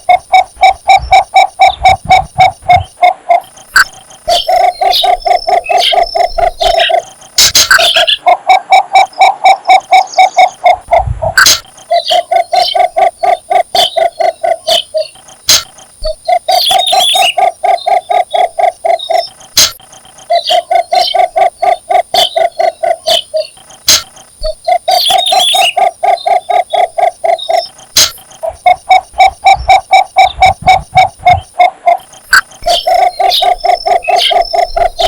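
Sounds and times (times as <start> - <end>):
bird call of low notes: 0.0 - 35.0.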